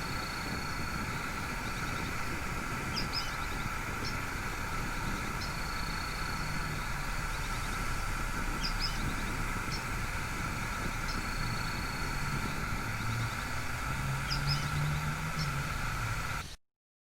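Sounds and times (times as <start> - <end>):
waterfall rushing: 0.0 - 16.5.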